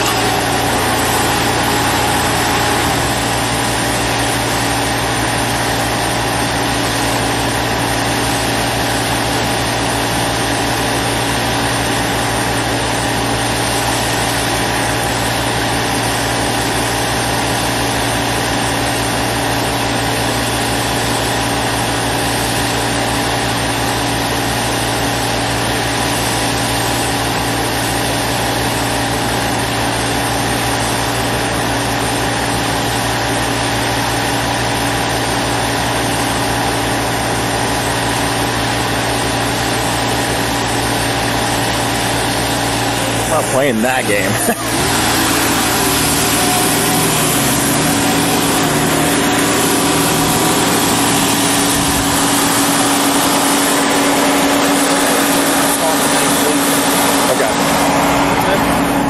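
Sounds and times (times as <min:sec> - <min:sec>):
machine engine idling: 0:00.0 - 0:59.0.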